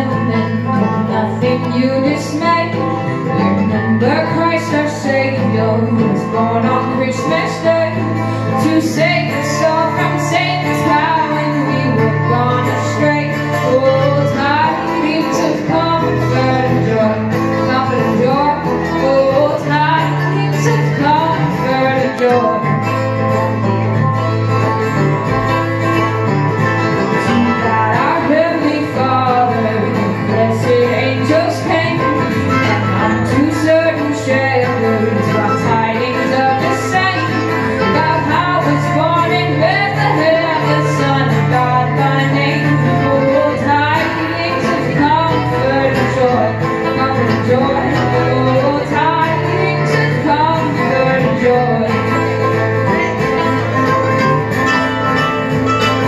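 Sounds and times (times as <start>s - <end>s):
mandolin: 0.0s - 56.0s
picked banjo: 0.0s - 56.0s
strummed acoustic guitar: 0.0s - 56.0s
woman singing lead: 0.0s - 56.0s.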